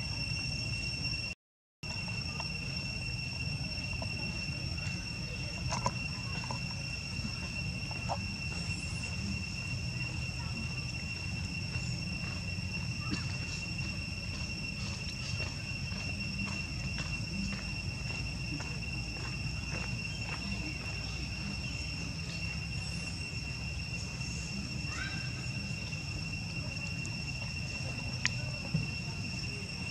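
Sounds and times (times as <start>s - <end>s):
insects trilling: 0.0s - 29.9s.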